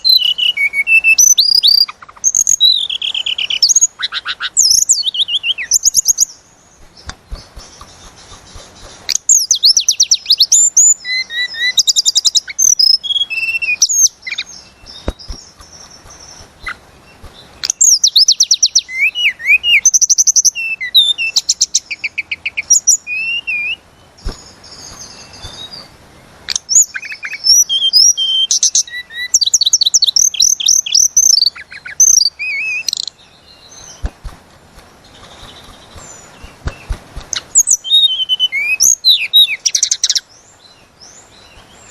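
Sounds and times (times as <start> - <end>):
bird singing whistles and trills: 0.0 - 25.9, 26.5 - 34.2, 35.0 - 41.9.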